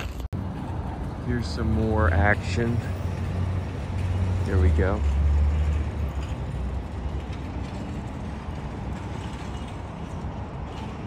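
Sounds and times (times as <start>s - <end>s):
low city rumble: 0.0s - 11.0s
traffic noise: 0.0s - 11.0s.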